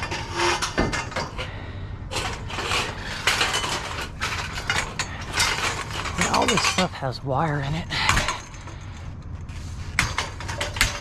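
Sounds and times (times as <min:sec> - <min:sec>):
scrap metal clanking: 0:00.0 - 0:11.0.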